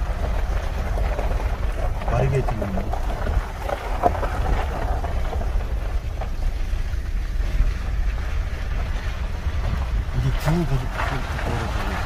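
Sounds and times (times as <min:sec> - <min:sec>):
tyres and engine rumble: 0:00.0 - 0:12.0
wind buffeting microphone: 0:00.0 - 0:12.0.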